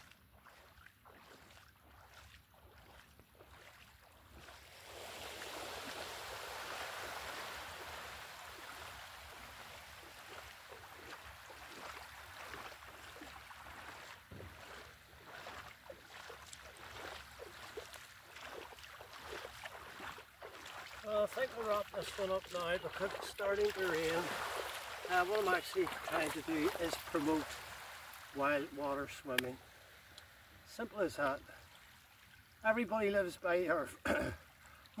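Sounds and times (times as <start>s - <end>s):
feet splashing in water: 0.0s - 32.6s.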